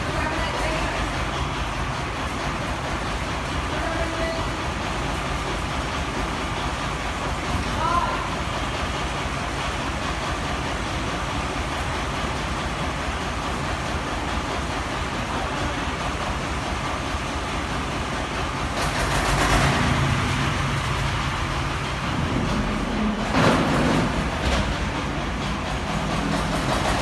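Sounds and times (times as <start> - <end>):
concrete mixer engine running: 0.0 - 27.0.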